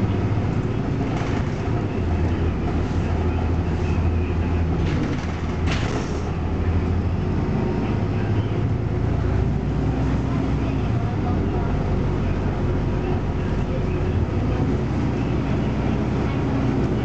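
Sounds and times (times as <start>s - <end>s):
bus engine and road drone: 0.0s - 17.0s.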